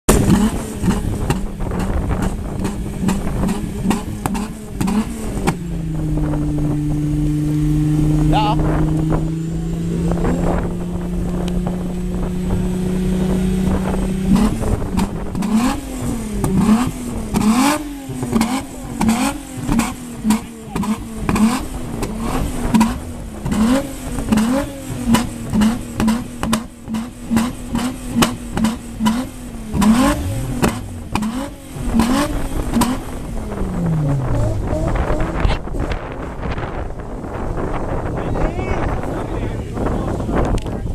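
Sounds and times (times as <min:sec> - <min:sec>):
car engine revving: 0:00.1 - 0:40.9
exhaust cracks: 0:00.1 - 0:40.9.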